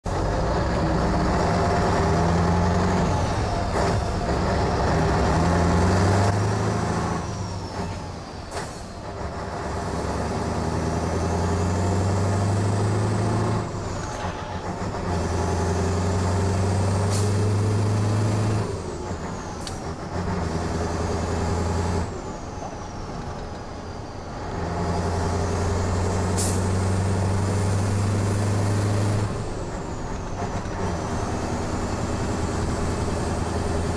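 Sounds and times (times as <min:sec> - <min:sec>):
diesel truck engine under load: 0:00.0 - 0:33.9.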